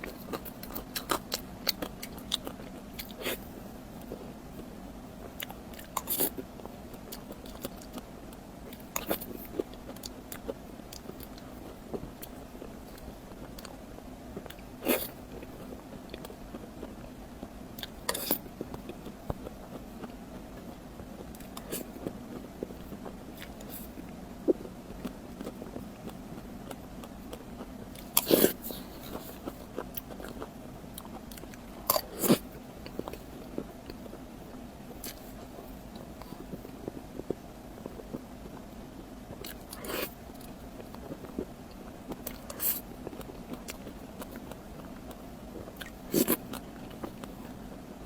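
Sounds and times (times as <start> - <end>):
person chewing: 0.0 - 47.8
steady low hum: 0.0 - 48.0.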